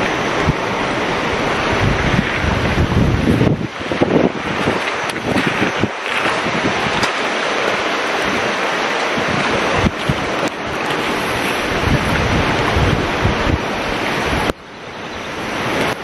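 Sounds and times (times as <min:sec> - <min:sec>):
river rushing: 0:00.0 - 0:16.0
wind buffeting microphone: 0:00.0 - 0:16.0.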